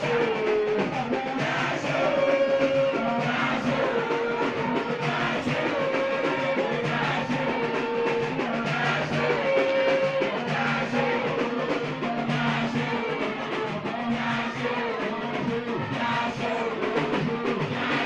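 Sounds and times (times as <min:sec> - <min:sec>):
drums and percussion: 0:00.0 - 0:18.0.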